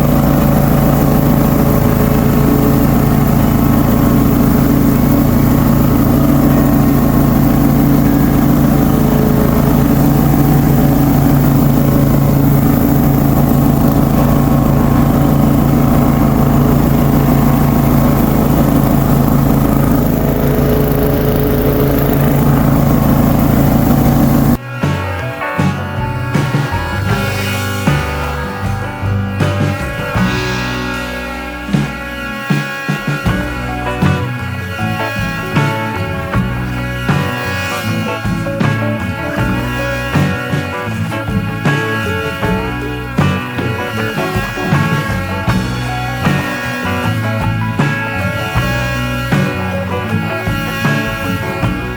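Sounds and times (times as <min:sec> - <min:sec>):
lawn mower engine droning: 0:00.0 - 0:51.9.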